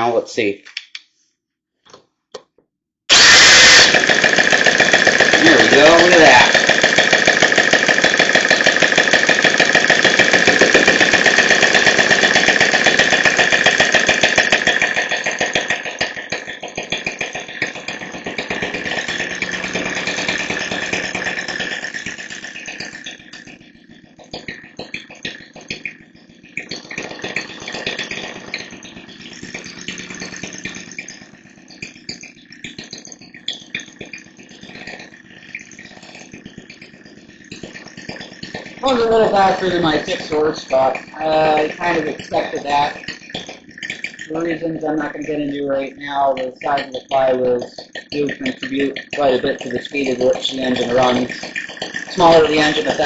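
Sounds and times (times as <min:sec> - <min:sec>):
small gasoline engine running fast: 0:03.1 - 0:53.0.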